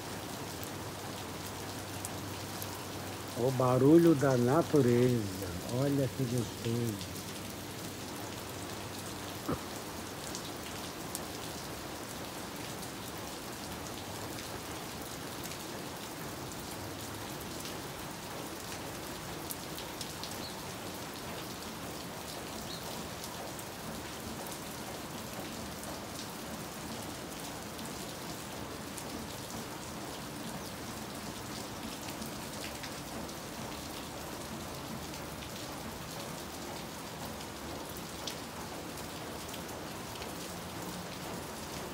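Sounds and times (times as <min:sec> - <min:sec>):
steady rain on roofs and street: 0:00.0 - 0:41.9.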